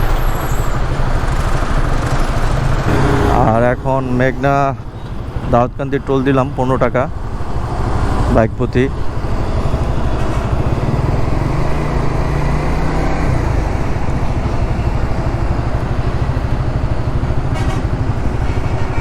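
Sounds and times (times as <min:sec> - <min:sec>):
road and wind noise: 0:00.0 - 0:19.0.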